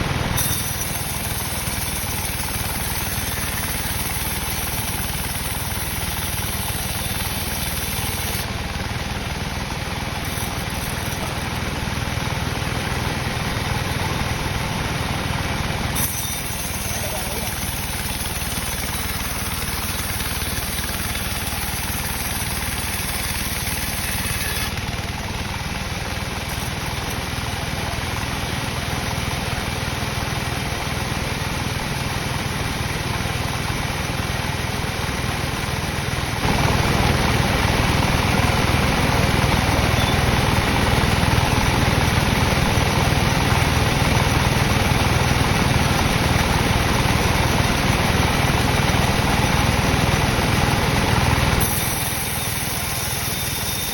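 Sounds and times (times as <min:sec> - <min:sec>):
sawmill sawing a log: 0:00.0 - 0:53.9.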